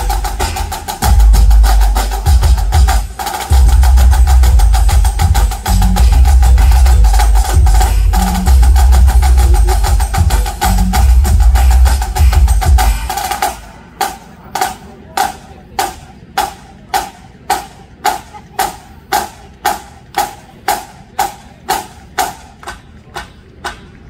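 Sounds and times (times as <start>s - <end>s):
drummers playing wooden clicks: 0.0s - 24.0s.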